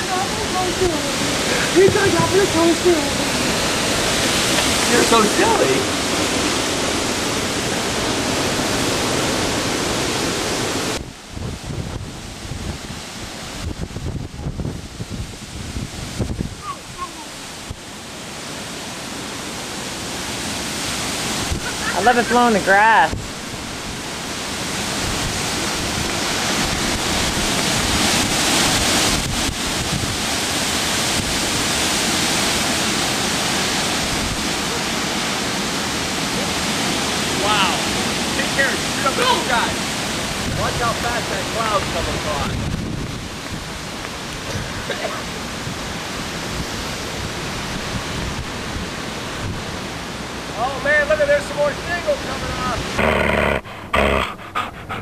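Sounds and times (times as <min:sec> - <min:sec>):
strong wind blasting microphone: 0:00.0 - 0:17.9, 0:20.8 - 0:35.4, 0:36.0 - 0:44.9, 0:45.5 - 0:49.8.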